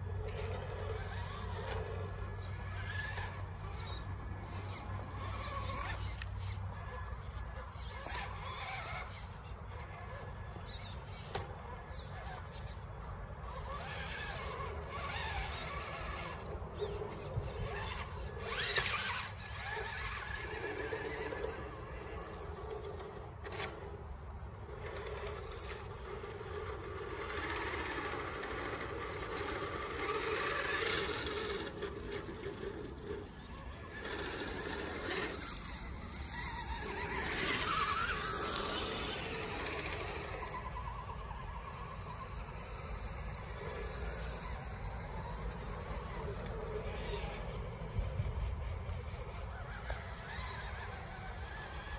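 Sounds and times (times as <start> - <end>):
electric motors whining: 0.0 - 51.9.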